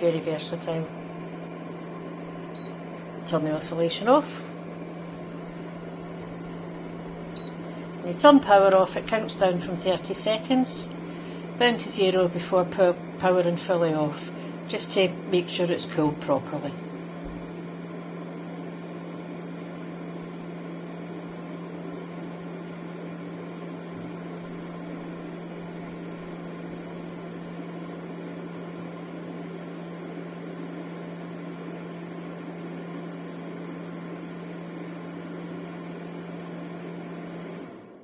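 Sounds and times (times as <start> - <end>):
space heater fan whirring: 0.0 - 38.0.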